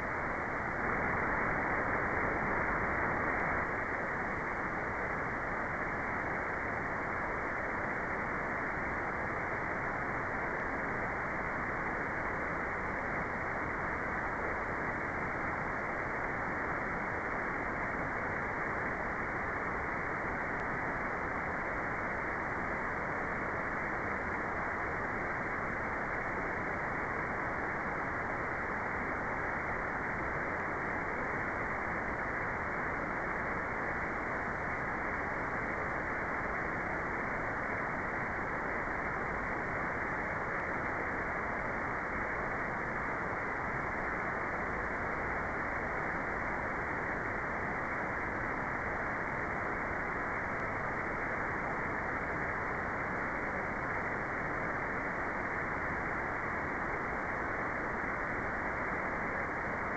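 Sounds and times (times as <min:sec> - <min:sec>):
muffled white noise: 0:00.0 - 0:59.9.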